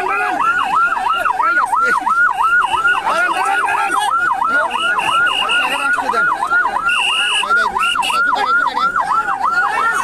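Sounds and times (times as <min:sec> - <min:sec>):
siren yelping: 0:00.0 - 0:10.0.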